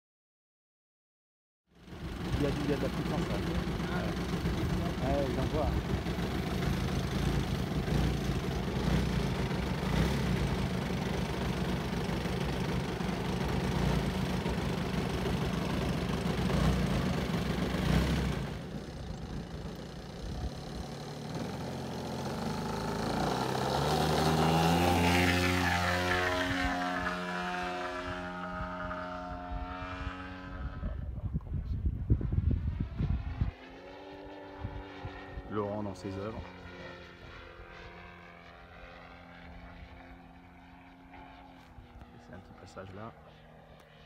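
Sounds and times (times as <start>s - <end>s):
model plane engine and propeller: 1.8s - 44.0s.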